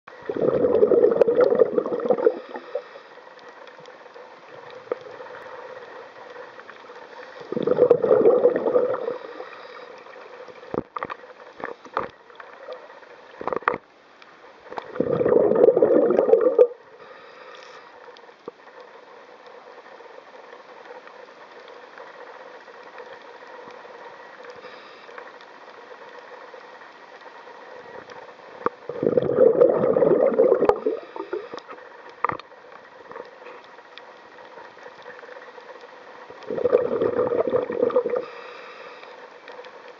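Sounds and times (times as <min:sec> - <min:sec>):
underwater bubbling: 0:00.1 - 0:39.9.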